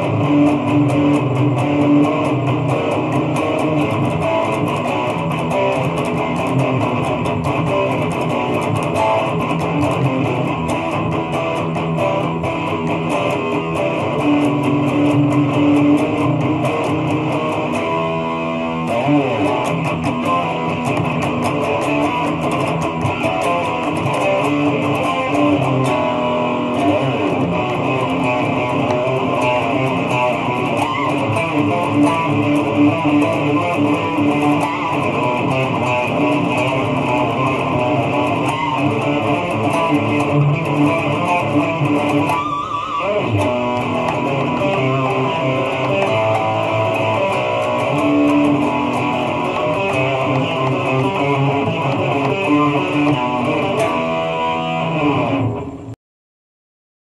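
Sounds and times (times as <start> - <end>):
electric guitar metal riffs: 0.0 - 56.0.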